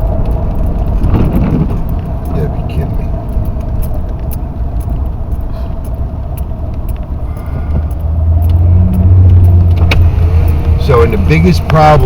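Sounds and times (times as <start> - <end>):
car engine and road rumble: 0.0 - 12.0
light ticks and rattles: 0.0 - 12.0.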